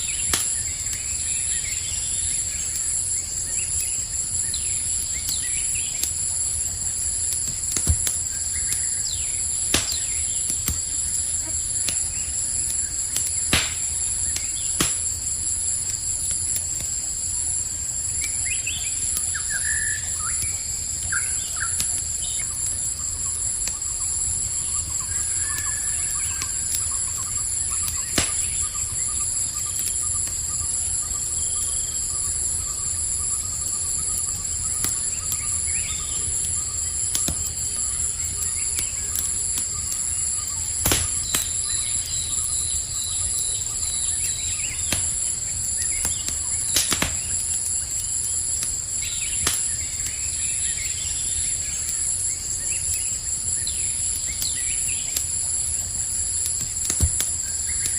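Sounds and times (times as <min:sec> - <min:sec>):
burning wood popping: 0:00.0 - 0:57.9
campfire crackling: 0:00.0 - 0:57.9
crickets chirring: 0:00.0 - 0:57.9.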